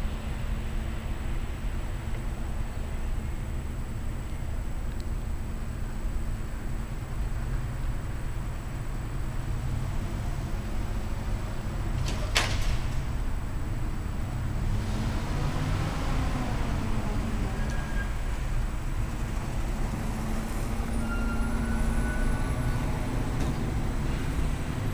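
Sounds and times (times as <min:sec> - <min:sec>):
traffic rumble: 0:00.0 - 0:24.9.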